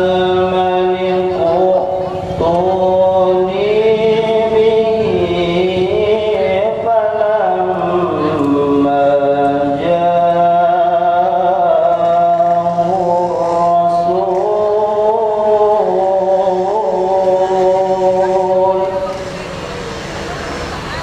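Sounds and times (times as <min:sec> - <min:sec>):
man reciting melodically: 0:00.0 - 0:19.3.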